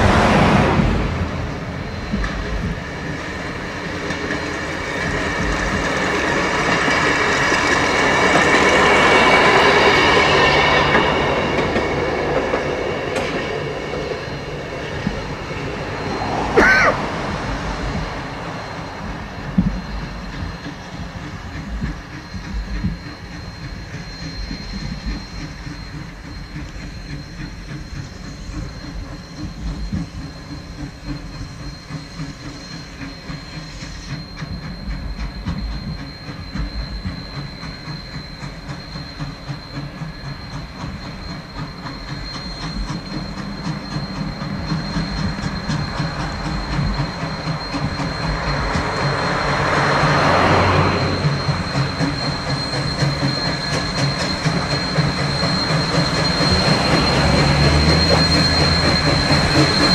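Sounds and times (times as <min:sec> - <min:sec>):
steam train rumbling: 0:00.0 - 0:59.9.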